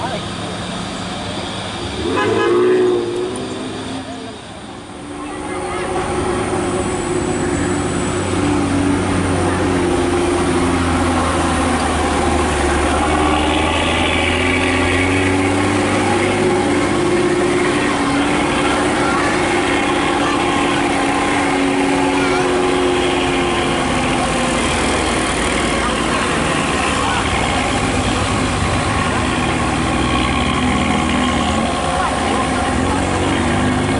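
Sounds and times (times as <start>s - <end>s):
diesel truck engine droning: 0.0s - 33.9s.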